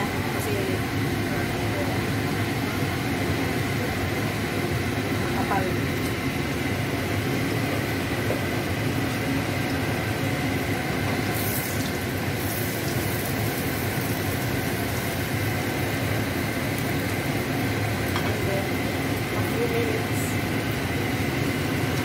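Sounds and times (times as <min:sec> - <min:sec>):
gas burner hissing: 0:00.0 - 0:22.0
water simmering in a pot: 0:00.0 - 0:22.0.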